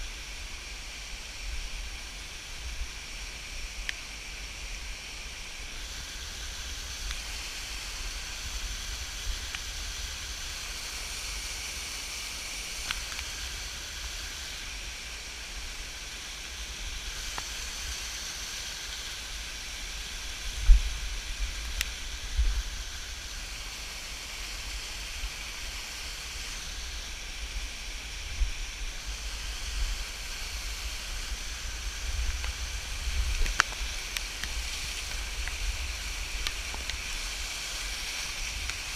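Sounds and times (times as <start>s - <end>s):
waterfall rushing: 0.2s - 38.9s.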